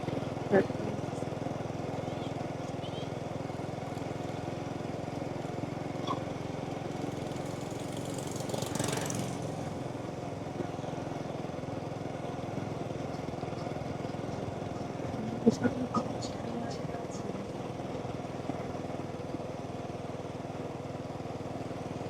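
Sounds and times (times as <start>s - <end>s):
motorbike engine humming: 0.0s - 22.0s.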